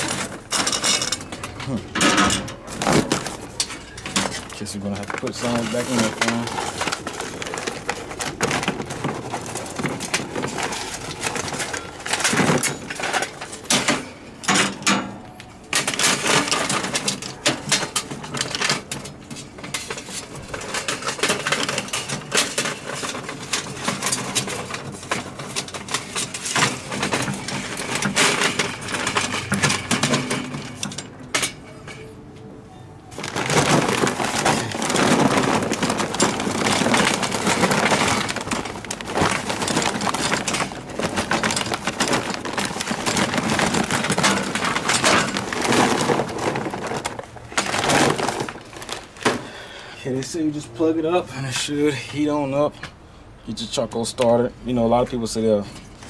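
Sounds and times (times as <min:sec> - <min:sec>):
charcoal clattering into metal chimney: 0:00.0 - 0:32.0, 0:33.1 - 0:50.0.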